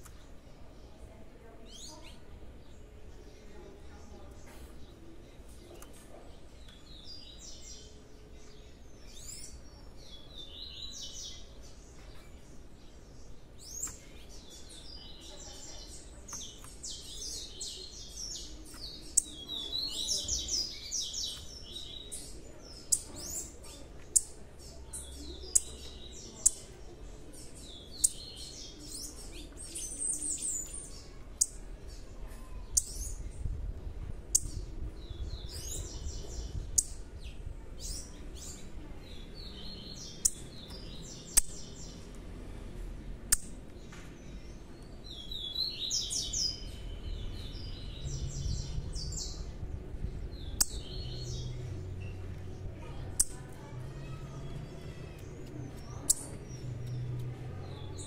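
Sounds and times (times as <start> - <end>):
young birds chirping: 0.0 - 58.0.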